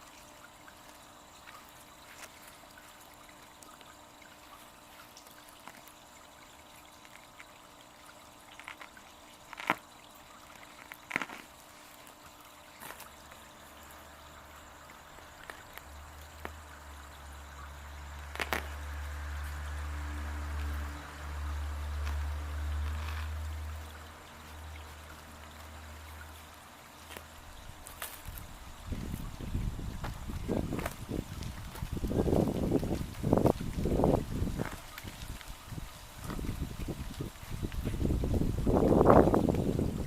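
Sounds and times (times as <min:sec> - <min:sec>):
waterfall trickling into pond: 0:00.0 - 0:40.0.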